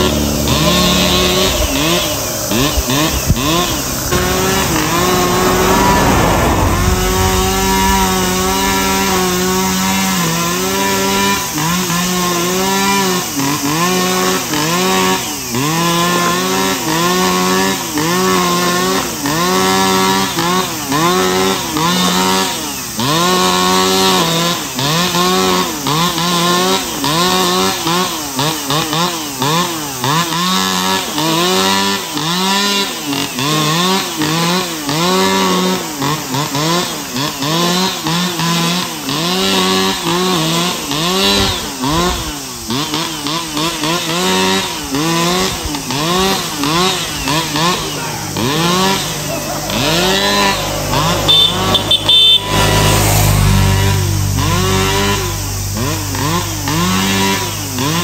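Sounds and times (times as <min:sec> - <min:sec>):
brushcutter cutting grass: 0:00.0 - 0:58.0.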